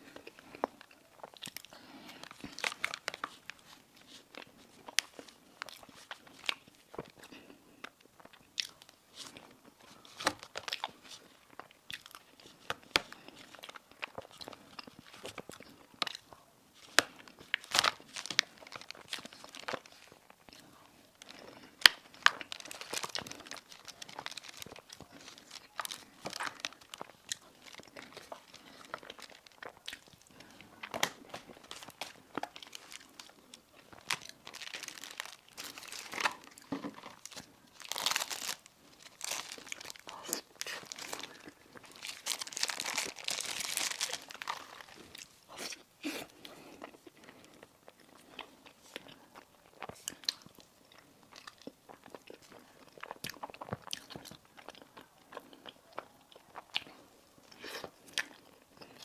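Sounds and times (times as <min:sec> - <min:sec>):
chewing: 0:00.0 - 0:59.0
crisp pastry crunching: 0:00.0 - 0:59.0.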